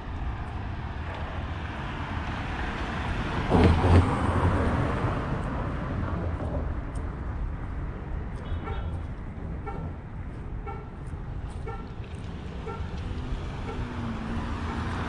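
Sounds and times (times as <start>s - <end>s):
low traffic hum: 0.0s - 15.0s.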